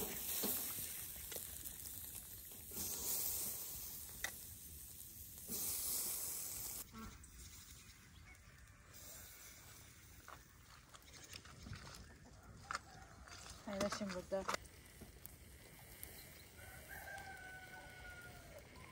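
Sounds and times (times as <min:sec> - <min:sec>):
fish sizzling on a grill: 0:00.0 - 0:11.3, 0:13.7 - 0:18.9.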